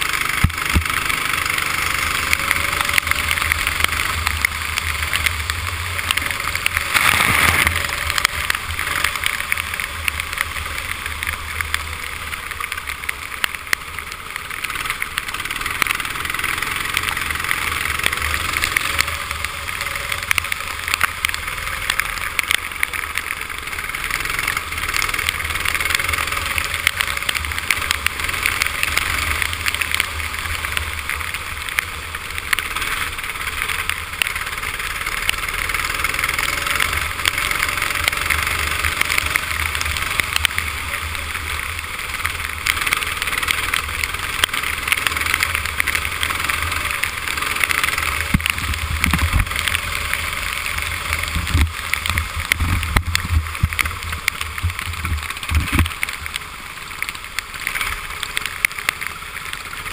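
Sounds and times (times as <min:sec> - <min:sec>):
kart engine running hard: 0:00.0 - 0:59.9
wind: 0:00.0 - 0:59.9.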